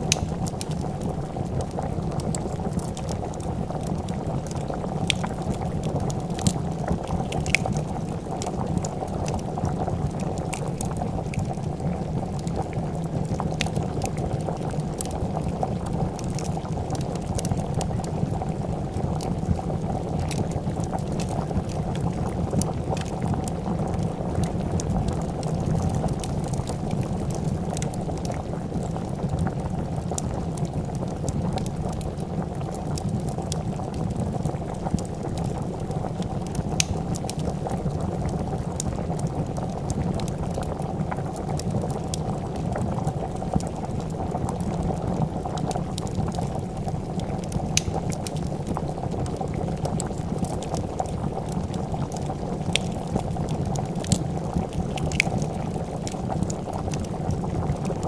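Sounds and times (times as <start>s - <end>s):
soup bubbling in a pot: 0.0s - 58.0s
wood fire crackling: 0.0s - 58.0s.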